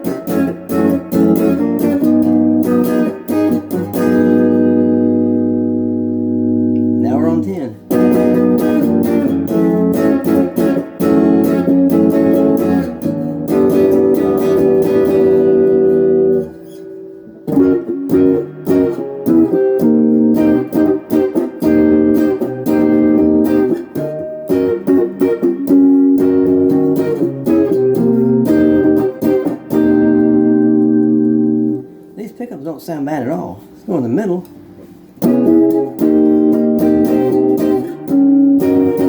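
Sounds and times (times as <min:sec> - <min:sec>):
electric guitar strummed chords: 0:00.0 - 0:32.2, 0:34.4 - 0:39.0.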